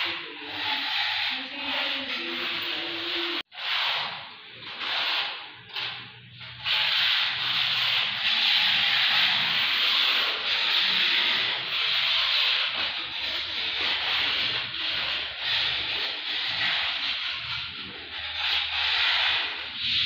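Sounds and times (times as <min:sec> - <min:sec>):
steel trowel scraping floor: 0:00.0 - 0:20.0.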